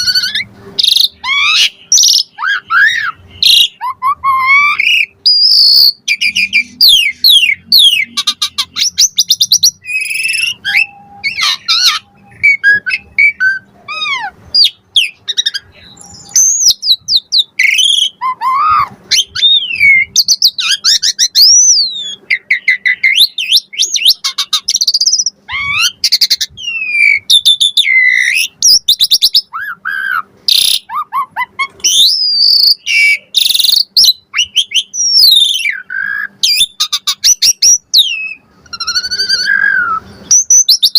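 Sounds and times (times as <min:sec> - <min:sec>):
starling singing varied song: 0:00.0 - 0:40.9.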